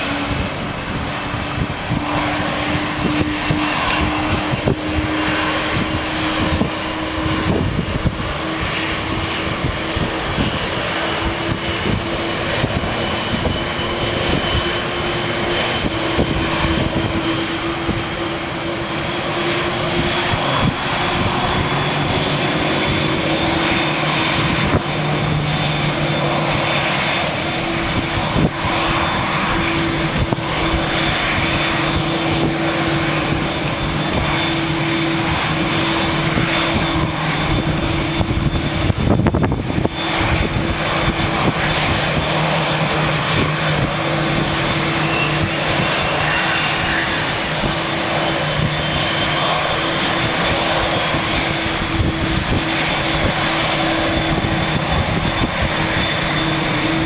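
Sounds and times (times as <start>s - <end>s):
jet engines humming and whining: 0.0s - 57.0s
wind buffeting microphone: 0.0s - 57.0s.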